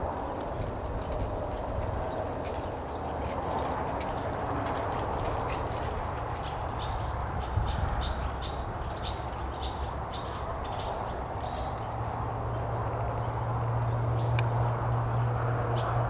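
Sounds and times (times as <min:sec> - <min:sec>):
hoofbeats on soft dirt: 0:00.0 - 0:15.0.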